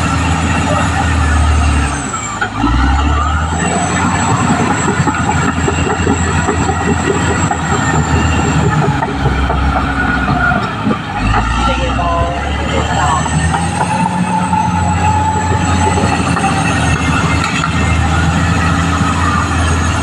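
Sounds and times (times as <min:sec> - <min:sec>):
diesel engine droning: 0:00.0 - 0:20.0
high-pitched squeal: 0:00.0 - 0:20.0
steel tracks clanking: 0:00.0 - 0:20.0.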